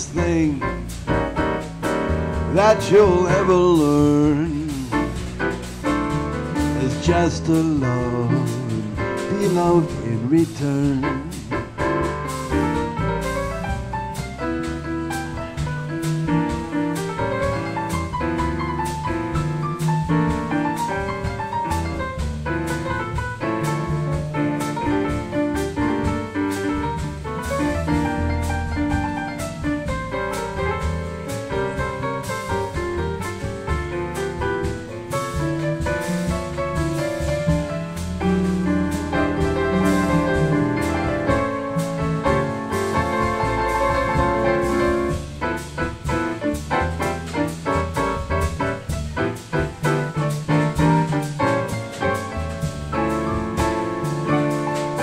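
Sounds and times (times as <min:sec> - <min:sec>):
grand piano playing jazz: 0:00.0 - 0:55.0.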